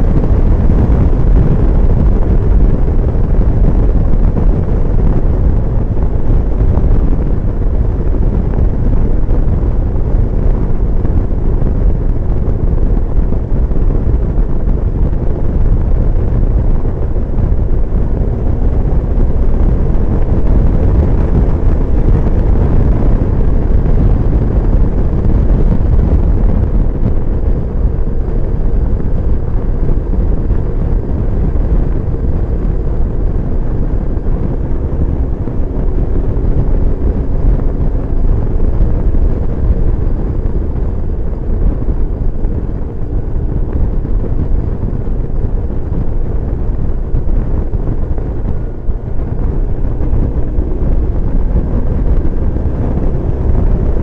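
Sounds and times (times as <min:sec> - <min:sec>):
motorcycle engine: 0:00.0 - 0:54.0
road noise: 0:00.0 - 0:54.0
wind buffeting microphone: 0:00.0 - 0:54.0.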